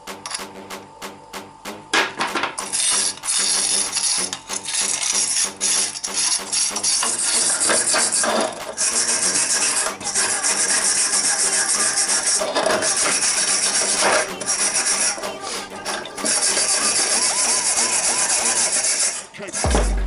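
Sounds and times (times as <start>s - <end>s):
sheet metal scraping: 2.2s - 20.0s.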